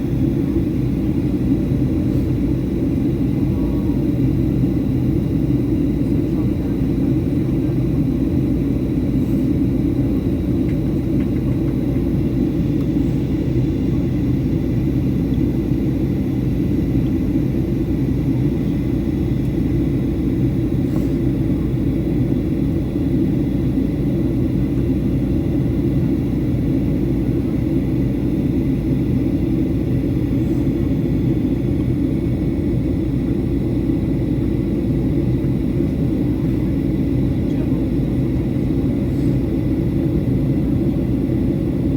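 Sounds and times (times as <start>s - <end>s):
airplane cabin rumble: 0.0s - 41.9s.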